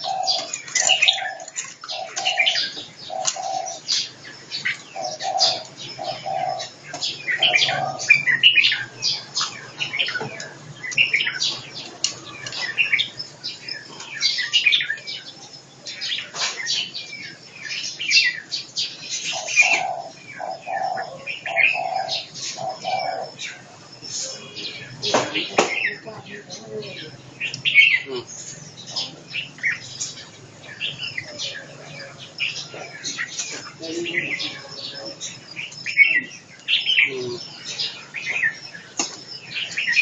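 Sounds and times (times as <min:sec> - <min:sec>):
birds chirping and whistling: 0:00.0 - 0:40.0.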